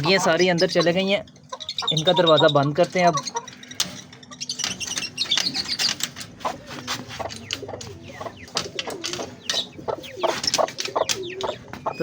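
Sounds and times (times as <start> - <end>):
birds calling: 0.0 - 12.0
chickens clucking: 0.0 - 12.0
parrots calling: 0.0 - 12.0.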